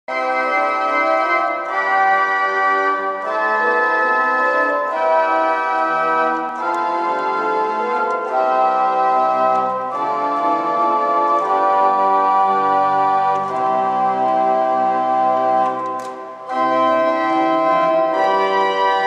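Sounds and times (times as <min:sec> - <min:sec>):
pipe organ chords: 0:00.1 - 0:19.0.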